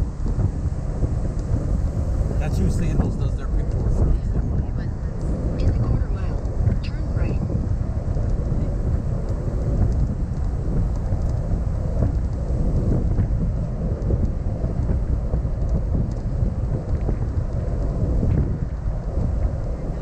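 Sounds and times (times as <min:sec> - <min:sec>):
car road rumble: 0:00.0 - 0:20.0
wind buffeting microphone: 0:00.0 - 0:20.0.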